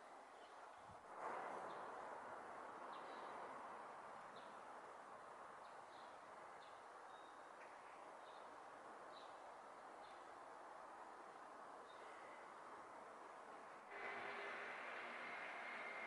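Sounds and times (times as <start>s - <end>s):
outdoor background hush: 0.0s - 16.0s.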